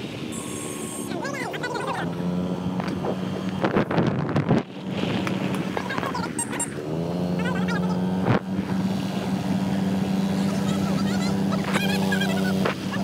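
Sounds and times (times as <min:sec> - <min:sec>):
motorbike engine running: 0:00.4 - 0:13.0.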